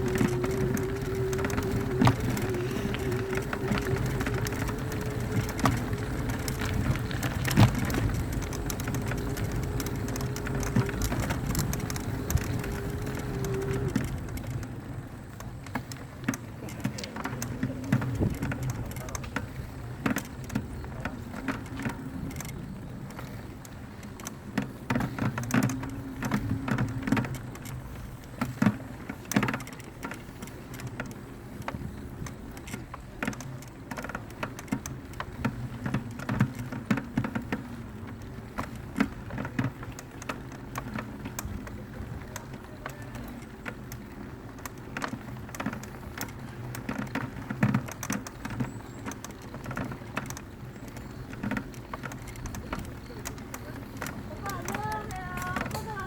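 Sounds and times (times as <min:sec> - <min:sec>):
bike knocking over rocks: 0:00.0 - 0:14.7, 0:15.4 - 0:56.0
mountain bike rattling: 0:00.0 - 0:56.0
tyres rumbling on dirt: 0:00.0 - 0:56.0.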